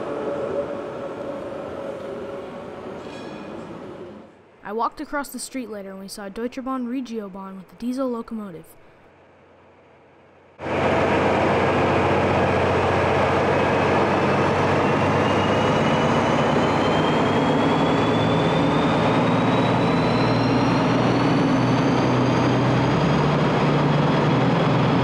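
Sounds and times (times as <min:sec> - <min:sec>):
diesel locomotive engine with whine: 0:00.0 - 0:04.4, 0:08.9 - 0:25.0.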